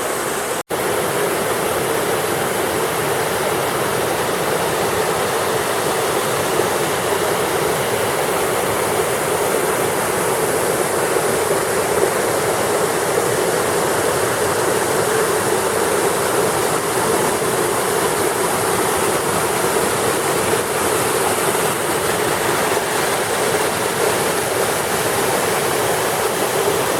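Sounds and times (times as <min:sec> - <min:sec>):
waterfall rushing and splashing: 0:00.0 - 0:26.9.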